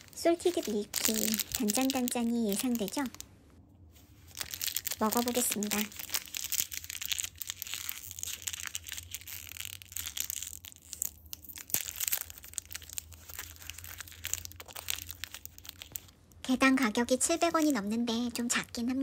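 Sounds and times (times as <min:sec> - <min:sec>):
candy wrapper crinkling: 0:00.0 - 0:03.3, 0:04.1 - 0:18.9.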